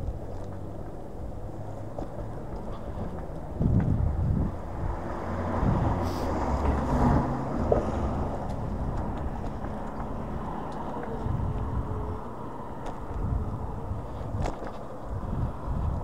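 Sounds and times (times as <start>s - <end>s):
scooter road noise: 0.0s - 16.0s
wind on microphone: 0.0s - 16.0s.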